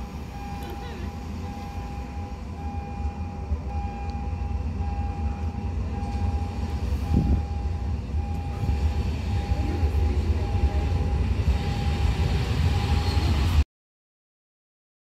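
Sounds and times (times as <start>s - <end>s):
electric train rumbling: 0.0s - 13.6s
high beeps: 0.3s - 13.4s.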